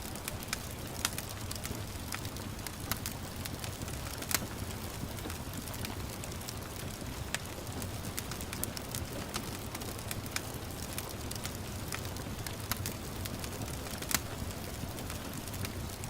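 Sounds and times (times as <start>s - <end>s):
gentle patter of rain: 0.0s - 16.0s
wood fire crackling and popping: 0.0s - 16.0s.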